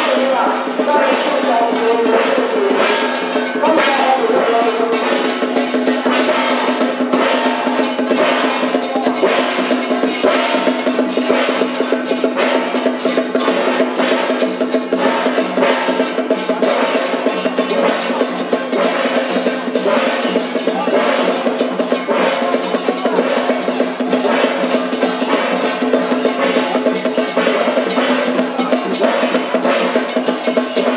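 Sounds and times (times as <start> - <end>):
drums and cymbals beating: 0.0 - 30.9.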